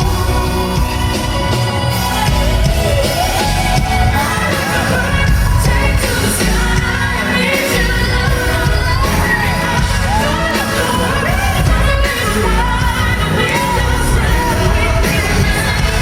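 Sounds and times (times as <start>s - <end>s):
live band with heavy bass: 0.0s - 16.0s
woman singing vocal runs: 0.0s - 16.0s.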